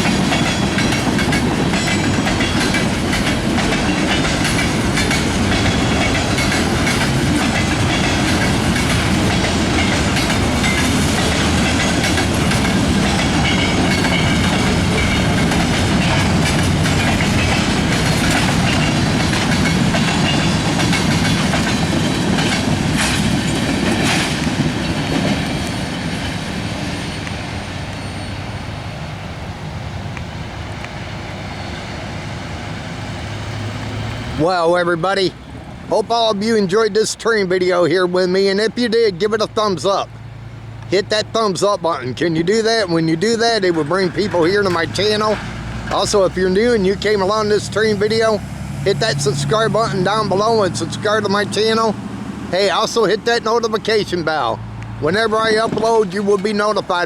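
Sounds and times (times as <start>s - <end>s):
train wheels clicking over rail joints: 0.0s - 28.5s, 30.1s - 57.0s
freight train rumble: 0.0s - 57.0s.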